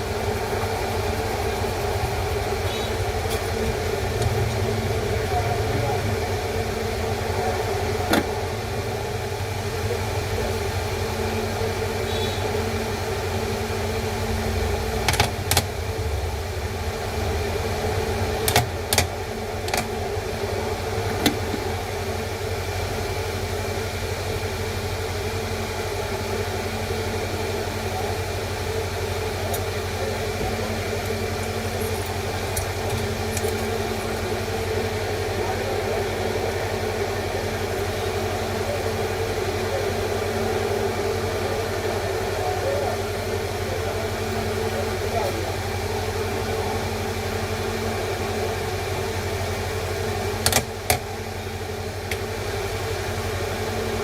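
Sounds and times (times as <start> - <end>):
machine hum with fixed tones: 0.0 - 54.0.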